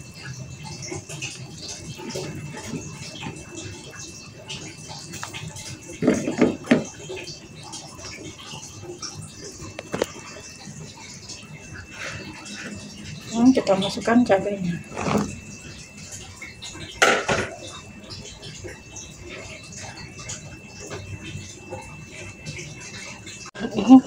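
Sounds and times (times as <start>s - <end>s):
water boiling in a pot: 0.0s - 24.0s.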